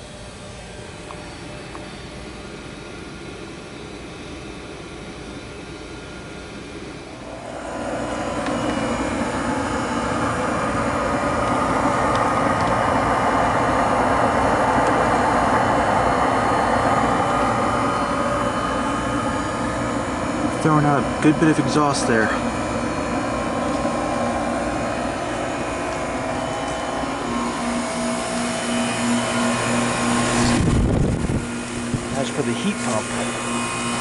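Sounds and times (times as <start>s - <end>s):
furnace exhaust vent rushing: 0.0s - 34.0s.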